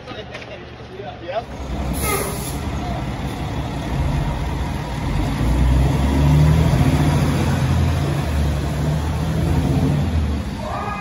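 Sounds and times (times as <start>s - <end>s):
diesel engine running: 1.4s - 10.7s.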